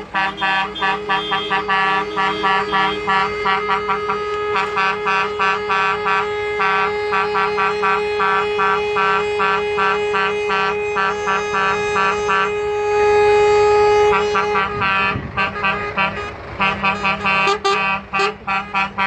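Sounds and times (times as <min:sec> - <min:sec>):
steady held horn: 0:00.0 - 0:19.0
truck air horns tooting: 0:00.0 - 0:19.0.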